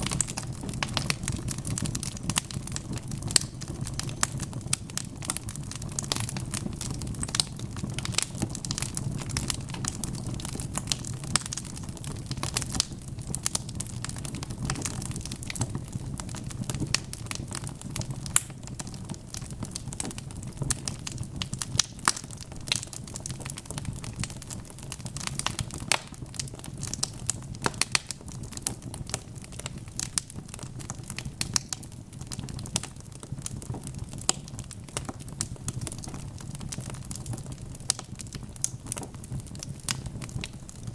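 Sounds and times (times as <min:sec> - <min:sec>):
fire low rumble: 0:00.0 - 0:40.9
logs crackling and popping: 0:00.0 - 0:40.9.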